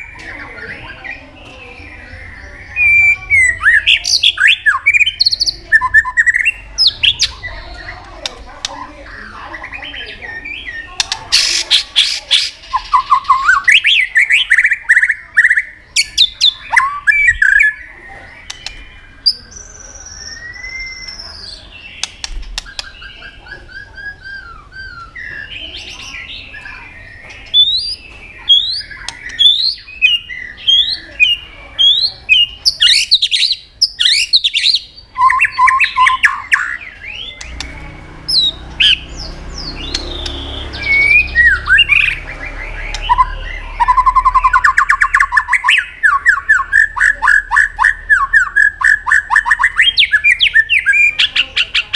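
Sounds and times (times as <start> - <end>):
bird singing whistles and trills: 0.0 - 8.0, 12.1 - 51.9
harsh scratchy bird chattering: 0.0 - 51.9.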